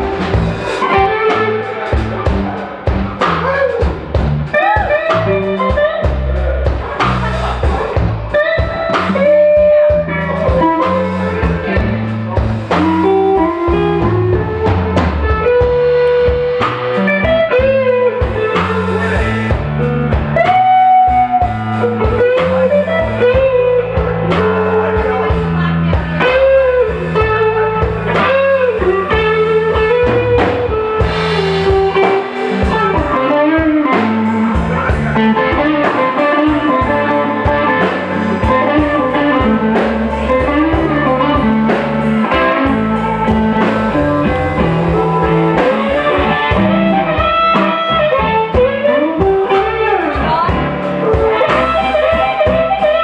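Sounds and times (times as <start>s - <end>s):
electric guitar solo: 0.0s - 7.3s, 7.9s - 53.0s
bass guitar: 0.0s - 53.0s
drum kit: 0.0s - 53.0s.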